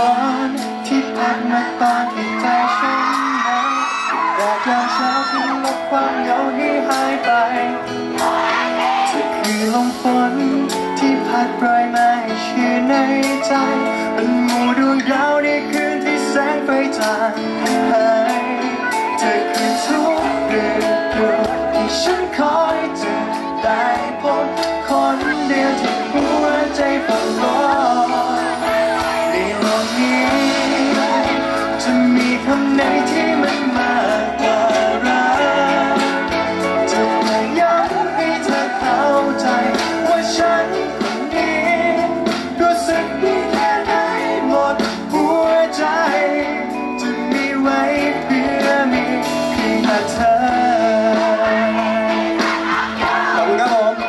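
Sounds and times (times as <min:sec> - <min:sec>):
live pop band playing: 0:00.0 - 0:54.0
man singing into microphone: 0:00.0 - 0:54.0.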